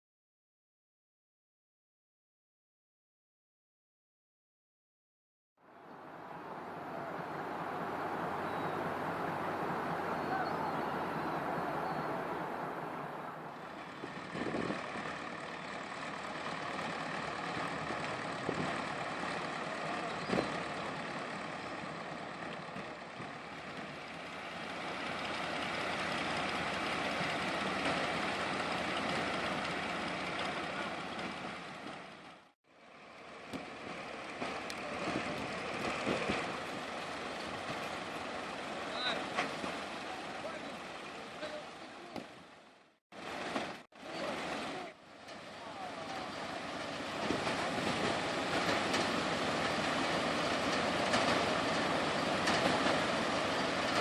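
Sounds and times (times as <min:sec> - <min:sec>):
vehicle engine running: 0:05.7 - 0:54.0.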